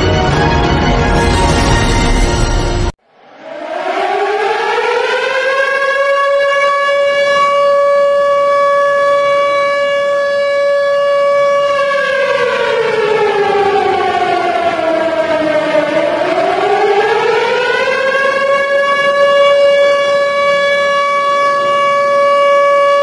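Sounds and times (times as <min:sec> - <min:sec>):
air-raid siren wailing: 0:00.0 - 0:23.0.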